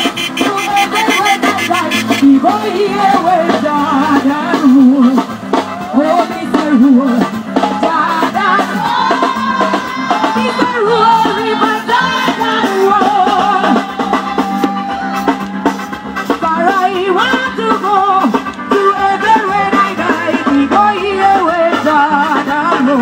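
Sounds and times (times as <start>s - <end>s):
instruments and drums: 0.0s - 23.0s
person singing with vibrato: 0.0s - 23.0s.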